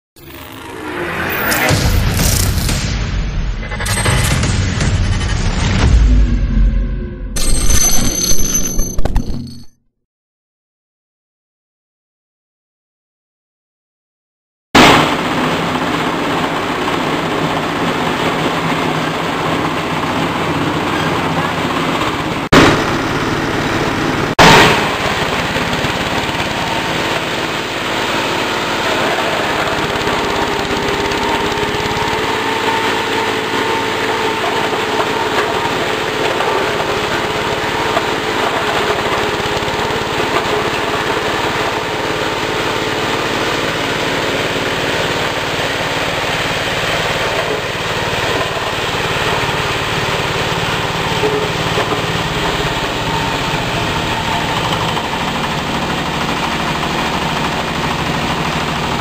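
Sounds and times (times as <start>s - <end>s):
crushing machine engine running: 0.2s - 7.9s, 14.8s - 59.0s
grinding noise: 0.2s - 9.8s, 17.2s - 59.0s.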